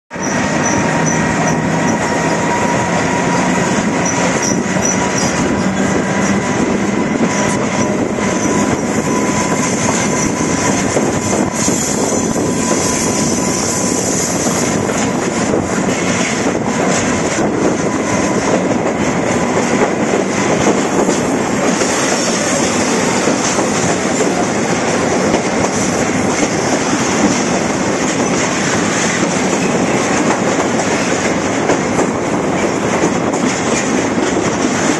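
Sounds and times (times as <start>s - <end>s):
train wheels rumbling on rails: 0.1s - 34.9s.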